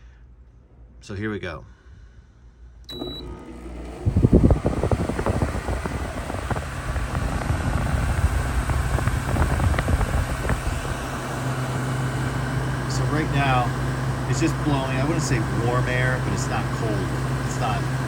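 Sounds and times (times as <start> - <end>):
steady hum: 2.3 - 18.0
air conditioner fan running: 2.9 - 18.0.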